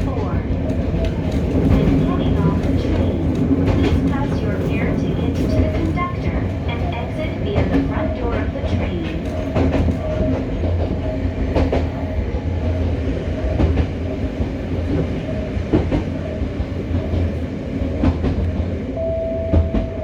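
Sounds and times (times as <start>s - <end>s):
wheels clacking over rail joints: 0.0s - 18.8s
train interior low rumble: 0.0s - 20.0s.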